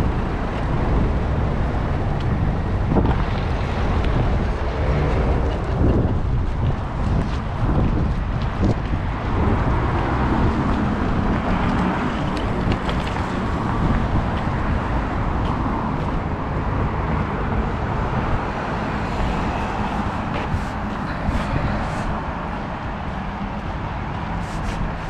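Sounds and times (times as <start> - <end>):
cars passing on road: 0.0 - 25.0.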